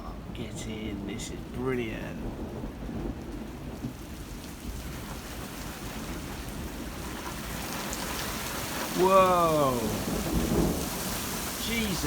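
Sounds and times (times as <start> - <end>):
heavy rain pouring: 0.0 - 12.0
low thunder rumble: 0.0 - 12.0.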